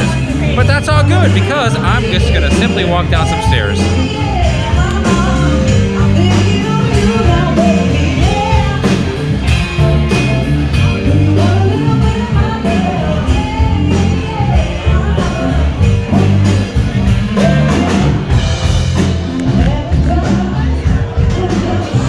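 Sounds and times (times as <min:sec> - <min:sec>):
rock song with singer: 0:00.0 - 0:22.0.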